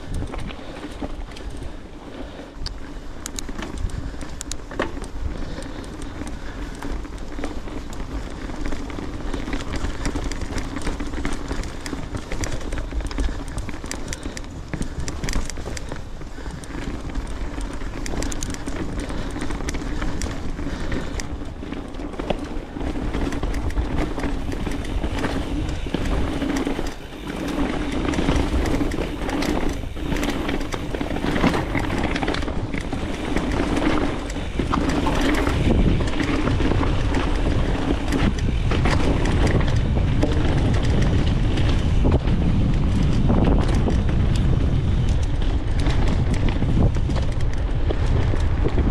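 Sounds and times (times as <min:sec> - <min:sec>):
bike tyres rolling over dirt: 0:00.0 - 0:48.9
wind on microphone: 0:05.2 - 0:48.9.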